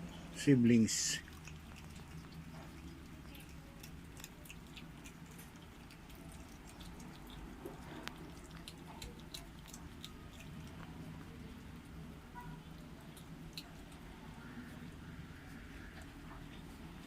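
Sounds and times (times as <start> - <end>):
kittens chewing and lapping: 0.0 - 17.0
low steady hum: 0.0 - 17.0.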